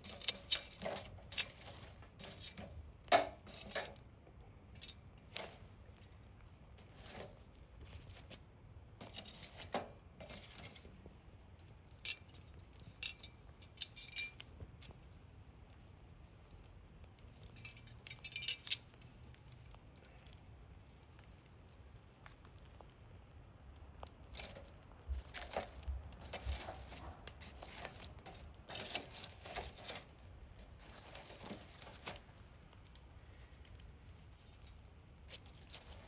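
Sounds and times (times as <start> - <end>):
embers crackling and popping: 0.0 - 36.0.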